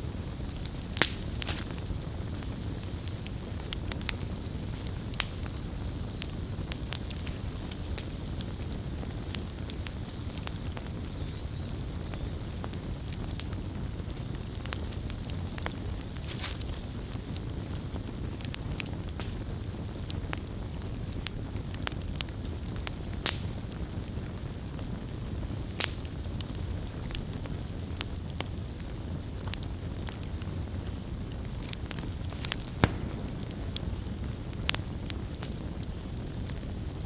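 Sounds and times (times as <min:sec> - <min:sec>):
campfire crackling and popping: 0:00.0 - 0:37.0
low fire rumble: 0:00.0 - 0:37.0.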